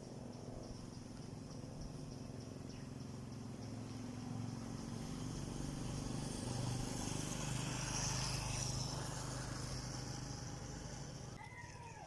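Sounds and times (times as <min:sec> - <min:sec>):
vehicle engine droning: 0:00.0 - 0:11.4.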